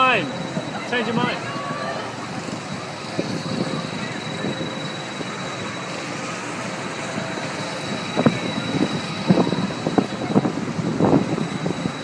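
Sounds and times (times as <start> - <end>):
ride mechanical rushing noise: 0.0 - 12.0.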